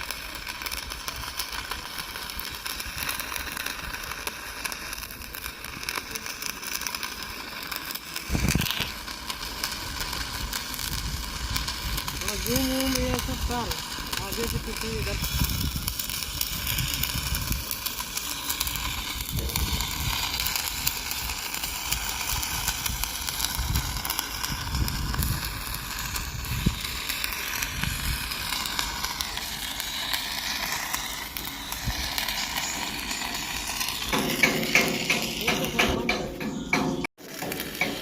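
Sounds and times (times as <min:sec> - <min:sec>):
welding arc crackling and hissing: 0:00.0 - 0:38.0.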